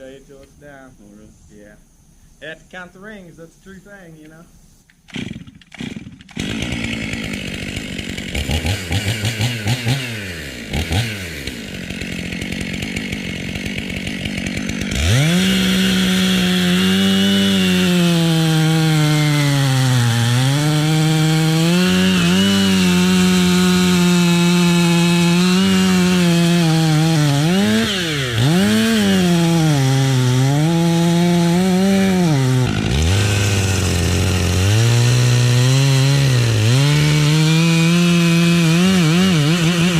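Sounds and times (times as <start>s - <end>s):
chainsaw cutting wood: 4.2s - 39.9s.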